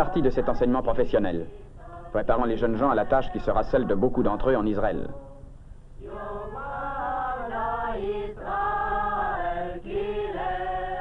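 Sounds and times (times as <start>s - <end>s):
choir singing held notes: 0.0s - 11.0s.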